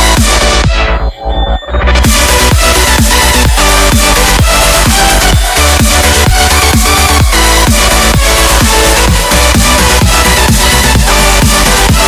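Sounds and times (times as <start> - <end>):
punchy kick drums: 0.0 - 1.1, 2.0 - 12.0
electronic dance music: 0.0 - 12.0.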